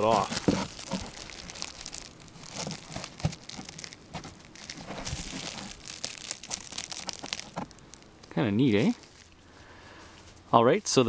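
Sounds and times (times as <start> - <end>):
plastic cling wrap crinkling: 0.0 - 9.4.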